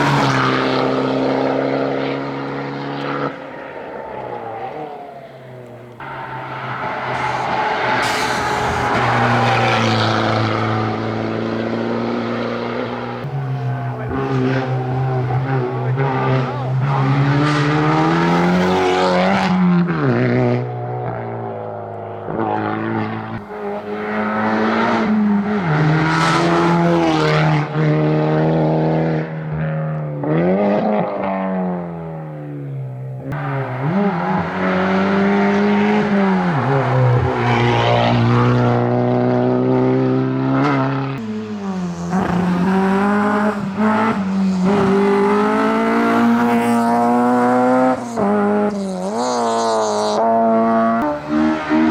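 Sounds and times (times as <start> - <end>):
rally car engine revving: 0.0 - 51.9
second rally car revving: 0.0 - 51.9.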